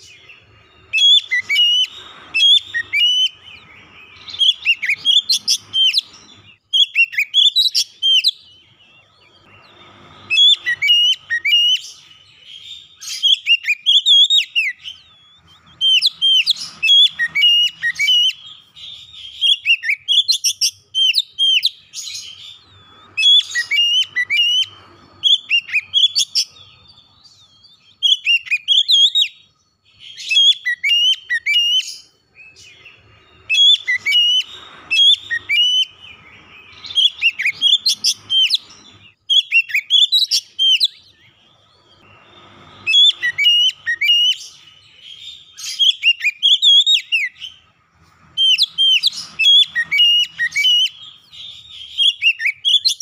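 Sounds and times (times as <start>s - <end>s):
bird singing whistled phrases: 0.0s - 47.7s, 48.3s - 53.0s.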